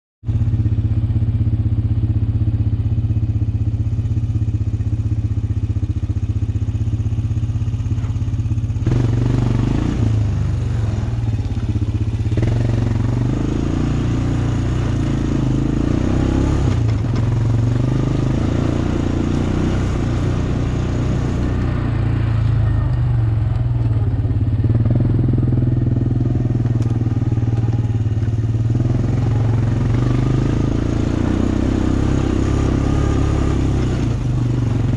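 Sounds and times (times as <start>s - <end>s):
quad bike engine running: 0.3s - 34.9s.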